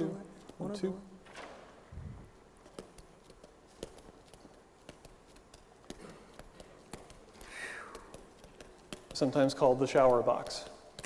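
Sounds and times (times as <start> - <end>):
juggling balls slapping hands: 0.3 - 0.8, 2.4 - 11.0.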